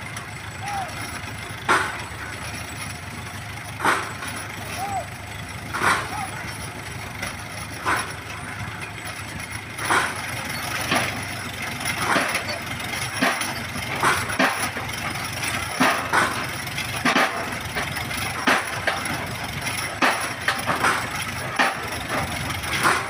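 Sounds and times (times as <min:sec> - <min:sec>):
winch engine running: 0:00.0 - 0:23.0
sharp metallic clanks: 0:00.1 - 0:23.0.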